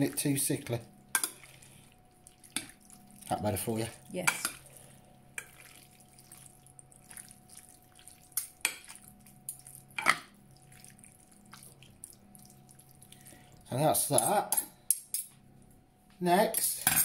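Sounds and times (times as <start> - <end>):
wet pasta squelches: 0.0 - 14.3
faint steady hum: 0.0 - 17.0.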